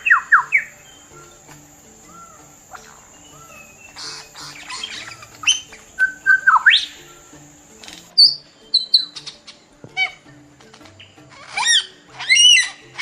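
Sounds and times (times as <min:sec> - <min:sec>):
birds calling: 0:00.0 - 0:13.0
soft background music: 0:00.0 - 0:13.0.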